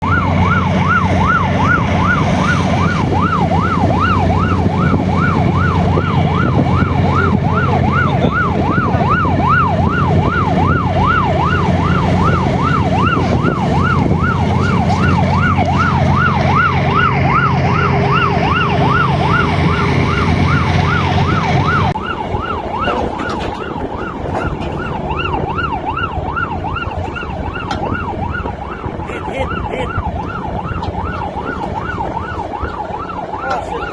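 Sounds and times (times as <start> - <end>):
low engine drone: 0.0 - 33.9
wailing siren: 0.0 - 33.9.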